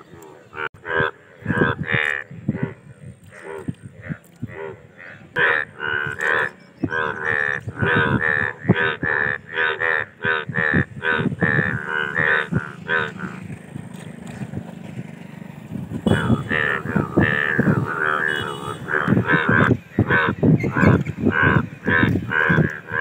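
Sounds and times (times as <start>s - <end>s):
bullfrogs calling: 0.0s - 14.5s, 15.7s - 23.0s.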